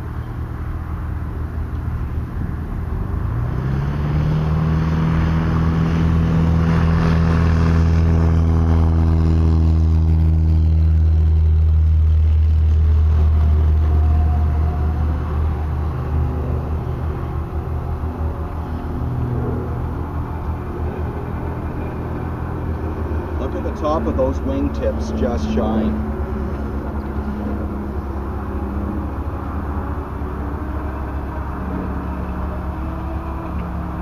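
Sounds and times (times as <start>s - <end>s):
tow tractor motor humming: 0.0s - 34.0s.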